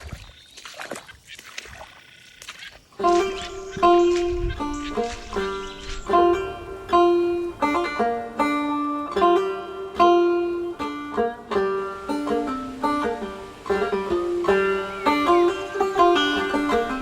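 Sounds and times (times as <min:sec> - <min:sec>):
banjo bluegrass tune: 0:03.0 - 0:17.0.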